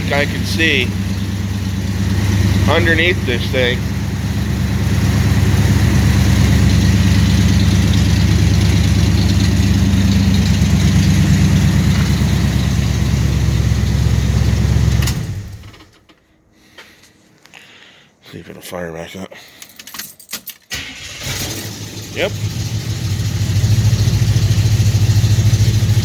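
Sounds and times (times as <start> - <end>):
car engine idling: 0.0 - 15.9, 20.7 - 26.0.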